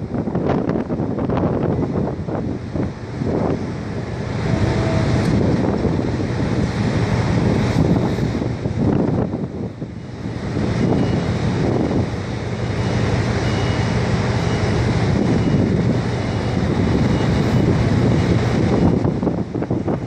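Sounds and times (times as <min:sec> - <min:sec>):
low machinery hum: 0:00.0 - 0:20.0
wind buffeting microphone: 0:00.0 - 0:20.0.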